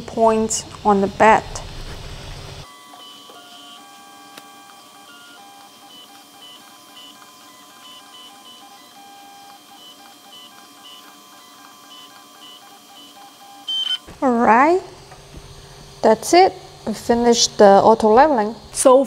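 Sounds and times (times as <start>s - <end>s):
stepper motors whining: 0.0s - 19.0s.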